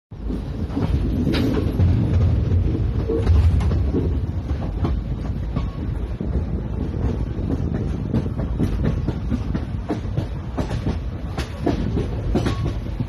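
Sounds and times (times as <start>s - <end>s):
clickety-clack of rail joints: 0.1s - 13.0s
train wheels rumbling on rail: 0.1s - 13.0s.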